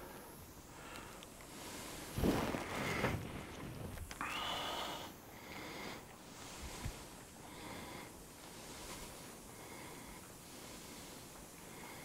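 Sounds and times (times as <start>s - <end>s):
man breathing: 0.0s - 3.5s, 4.1s - 12.0s.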